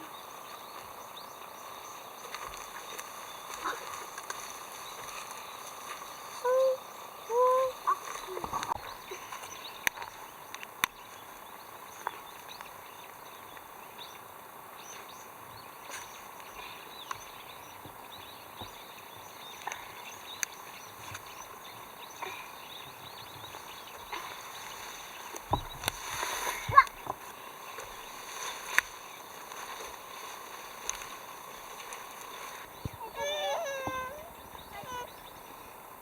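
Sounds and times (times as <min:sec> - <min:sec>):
faint bird chirps: 0:00.0 - 0:27.1, 0:32.2 - 0:35.9.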